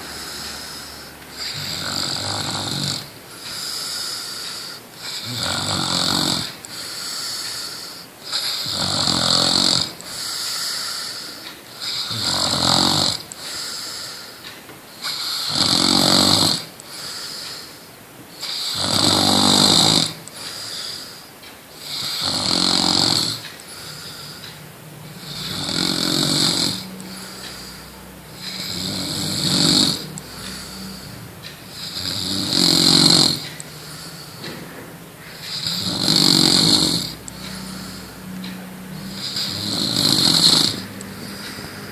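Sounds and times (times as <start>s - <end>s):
person snoring loudly: 0.0s - 14.2s, 15.0s - 17.3s, 18.4s - 21.2s, 21.8s - 24.4s, 25.0s - 34.5s, 35.3s - 41.9s
quiet breathing: 0.0s - 41.9s.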